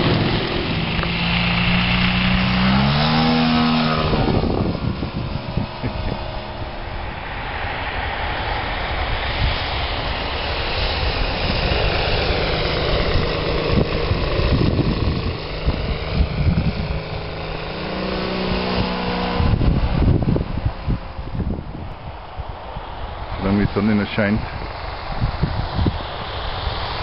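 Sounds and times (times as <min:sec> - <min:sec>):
model airplane engine flying over: 0:00.0 - 0:27.0
wind rumble on microphone: 0:00.0 - 0:27.0.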